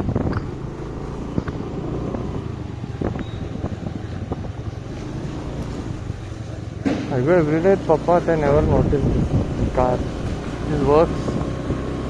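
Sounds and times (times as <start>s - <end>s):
road and wind rumble: 0.0s - 12.0s
vehicle engine hum: 0.0s - 12.0s.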